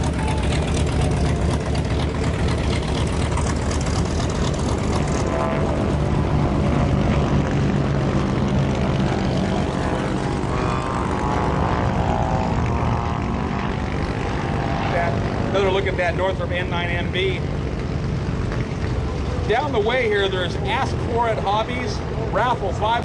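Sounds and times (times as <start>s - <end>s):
propeller aircraft droning overhead: 0.0s - 23.0s.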